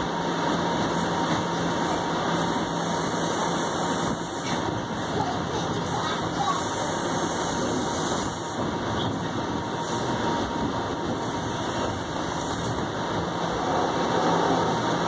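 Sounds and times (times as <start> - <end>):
streetcar interior rumble: 0.0 - 15.0.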